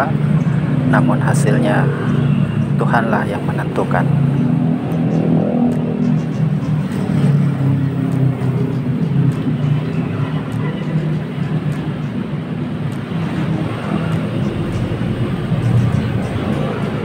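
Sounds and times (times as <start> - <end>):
cars passing: 0.0 - 17.0
motorbikes passing: 0.0 - 17.0.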